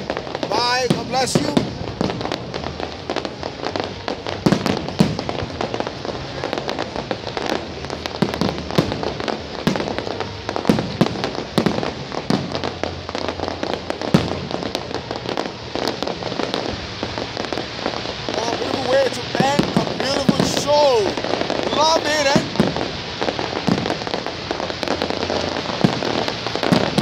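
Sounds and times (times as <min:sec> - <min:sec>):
fireworks booms: 0:00.0 - 0:27.0
fireworks crackling and popping: 0:00.0 - 0:27.0.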